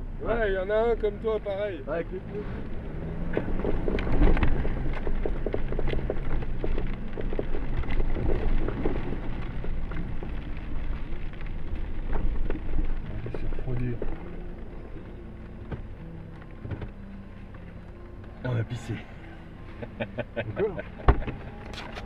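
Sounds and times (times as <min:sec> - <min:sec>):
car engine running at low revs: 0:00.0 - 0:22.0.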